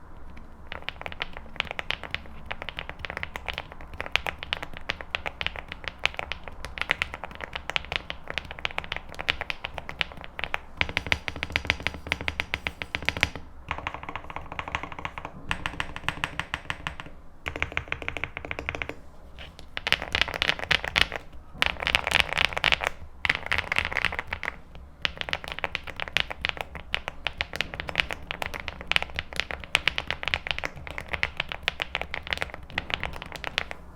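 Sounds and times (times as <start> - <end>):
mechanical keyboard typing: 0.0 - 33.9.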